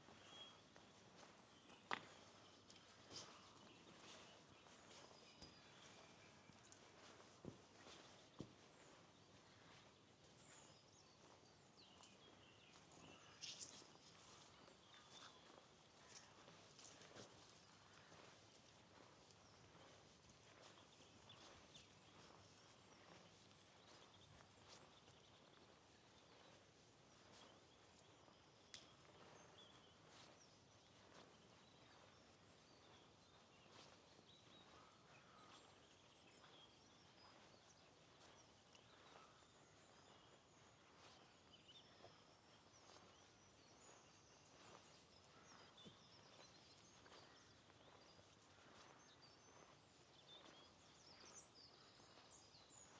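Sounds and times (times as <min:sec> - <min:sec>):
faint walking footsteps: 0:00.0 - 0:52.9.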